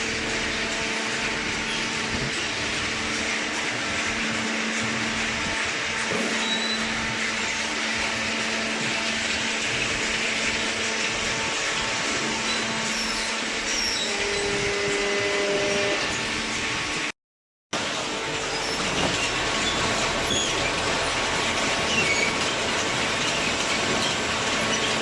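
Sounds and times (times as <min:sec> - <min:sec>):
machine whirring: 0:00.0 - 0:17.1, 0:17.8 - 0:25.0.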